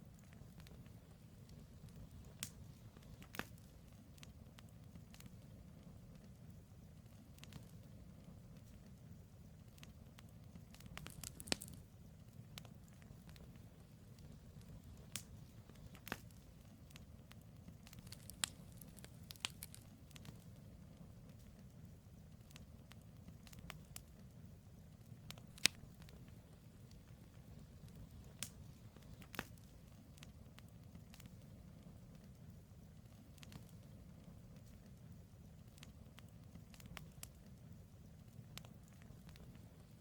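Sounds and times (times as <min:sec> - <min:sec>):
campfire flames rumbling: 0:00.0 - 0:40.0
wood crackling and popping: 0:00.0 - 0:40.0.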